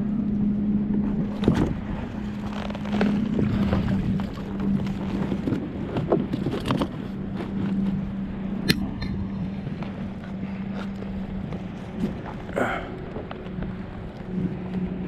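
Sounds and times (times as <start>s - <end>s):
motorboat engine humming: 0.0s - 15.0s
water noise: 0.0s - 15.0s
wind: 0.0s - 15.0s.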